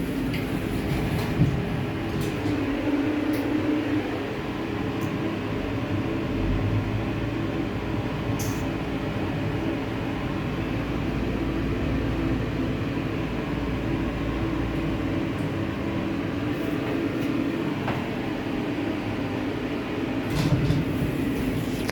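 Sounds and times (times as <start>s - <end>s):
elevator car rumble: 0.0s - 21.9s
ventilation fan hum: 0.0s - 21.9s.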